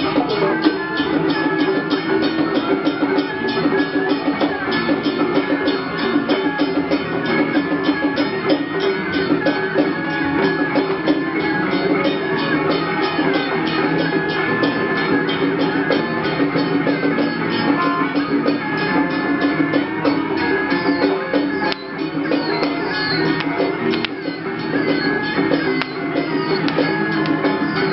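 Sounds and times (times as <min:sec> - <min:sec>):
fast percussion beats: 0:00.0 - 0:27.9
held melodic line: 0:00.0 - 0:27.9.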